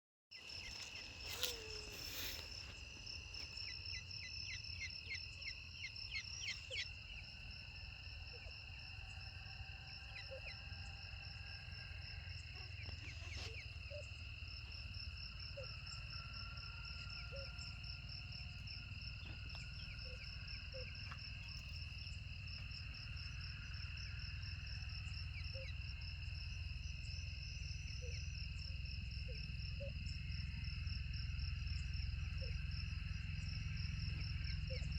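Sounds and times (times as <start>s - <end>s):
crickets trilling: 0.4s - 34.9s.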